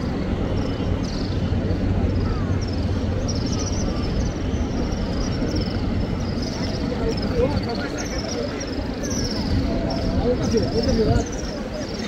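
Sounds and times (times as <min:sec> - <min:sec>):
crowd murmuring and moving: 0:00.0 - 0:12.0.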